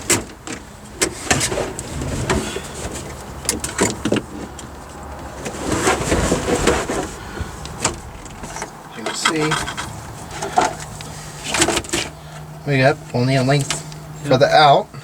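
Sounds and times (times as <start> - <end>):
electrical cable rustling: 0.0 - 14.4.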